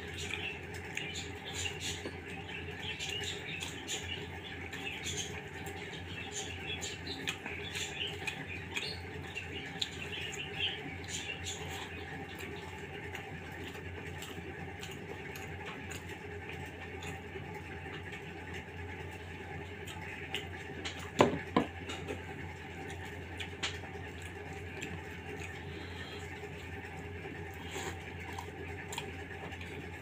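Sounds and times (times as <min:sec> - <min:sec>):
chewing: 0:00.0 - 0:05.8, 0:06.4 - 0:30.0
steady low hum: 0:00.0 - 0:30.0.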